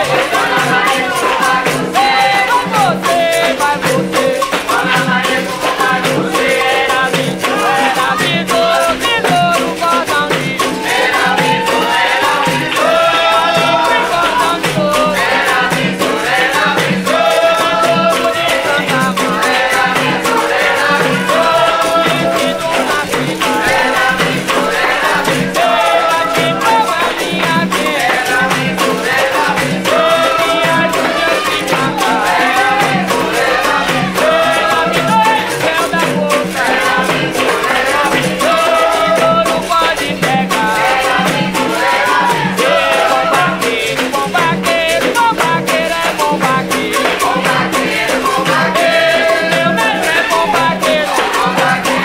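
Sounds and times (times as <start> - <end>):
percussion rhythm: 0.0 - 52.0
person singing: 0.0 - 52.0
shaker rattle: 0.0 - 52.0.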